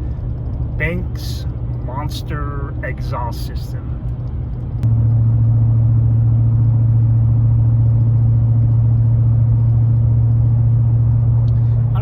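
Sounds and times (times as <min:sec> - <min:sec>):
truck exhaust deep drone: 0:00.0 - 0:12.0.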